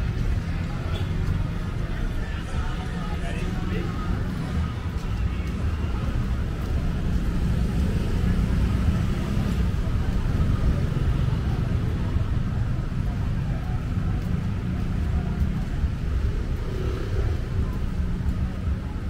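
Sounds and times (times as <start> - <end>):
rumble of passing cars and motorbikes: 0.0 - 19.0.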